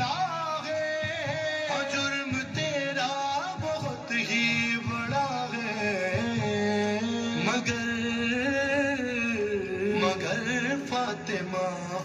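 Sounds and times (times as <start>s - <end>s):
devotional song with wavering voice: 0.0s - 12.0s.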